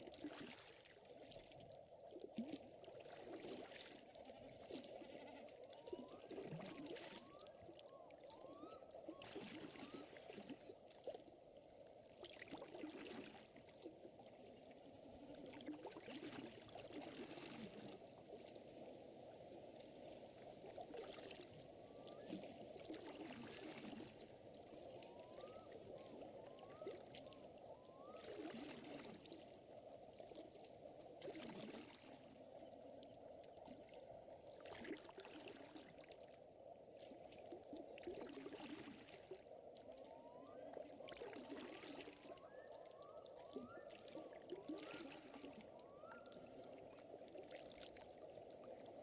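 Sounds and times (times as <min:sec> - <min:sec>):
water lapping and trickling: 0:00.0 - 0:49.0.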